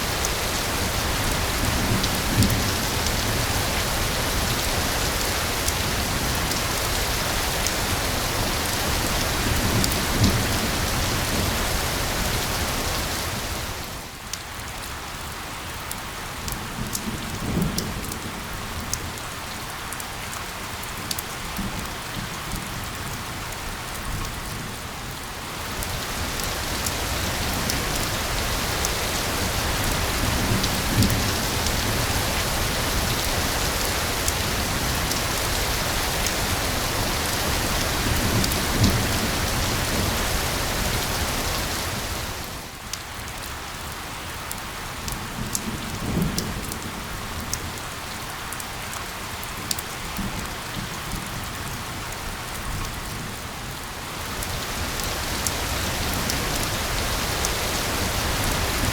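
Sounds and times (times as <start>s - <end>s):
rain pattering: 0.0s - 58.9s.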